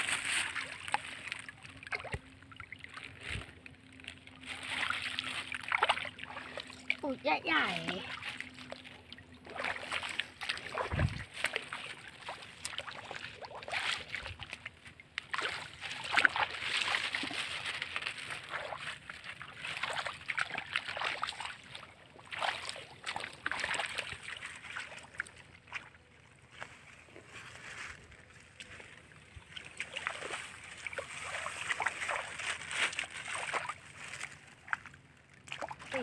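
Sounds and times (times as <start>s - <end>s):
water sloshing around legs: 0.0s - 36.0s.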